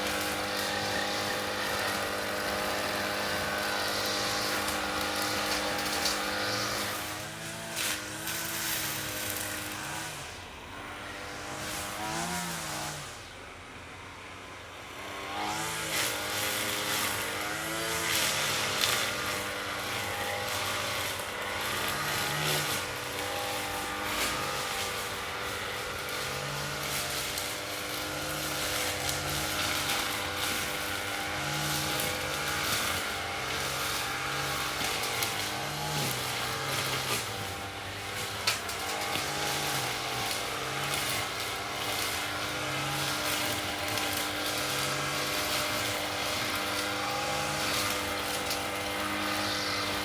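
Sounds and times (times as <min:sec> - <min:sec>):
lawn mower engine running: 0:00.0 - 0:14.0, 0:14.9 - 0:50.0.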